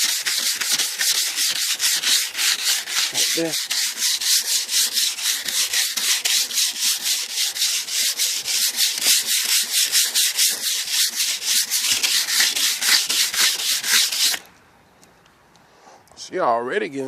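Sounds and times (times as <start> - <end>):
sandpaper scraping metal: 0.0 - 14.4.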